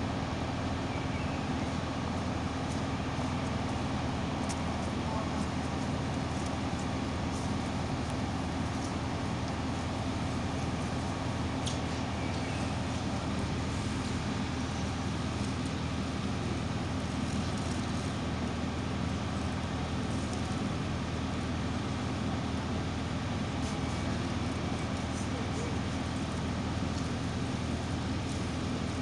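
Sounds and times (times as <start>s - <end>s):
machinery engine droning: 0.0s - 29.0s.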